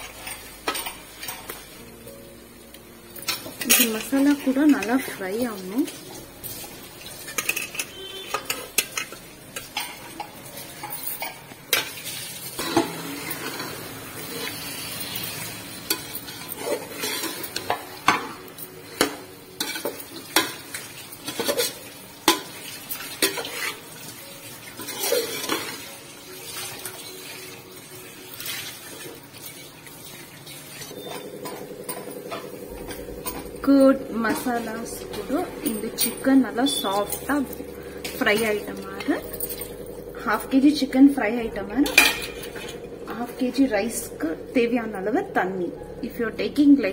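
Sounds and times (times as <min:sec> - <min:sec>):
sizzling: 0:00.0 - 0:46.9.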